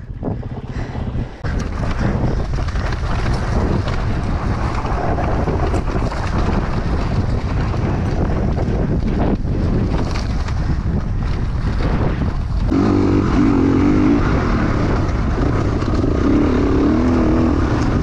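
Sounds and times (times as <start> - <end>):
rumble and rattle on dirt trail: 0.0 - 18.0
wind buffeting microphone: 0.0 - 18.0.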